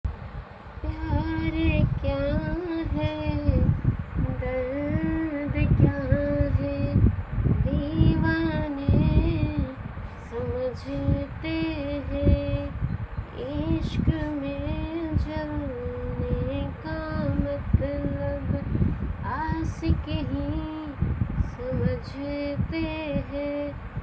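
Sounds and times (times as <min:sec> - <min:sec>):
woman singing: 0:00.8 - 0:23.8.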